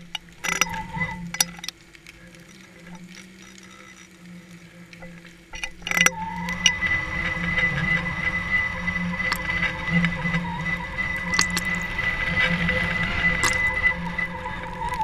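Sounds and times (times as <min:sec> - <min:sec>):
constant high whine: 0:00.0 - 0:15.0.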